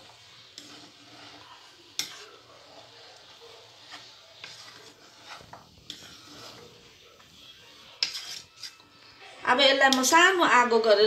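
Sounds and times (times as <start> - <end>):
spoon scraping rice in pan: 0.0 - 9.0.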